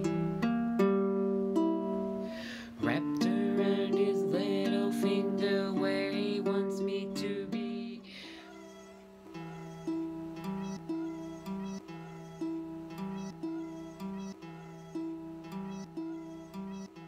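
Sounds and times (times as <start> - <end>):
ukulele plucked: 0.0 - 17.0.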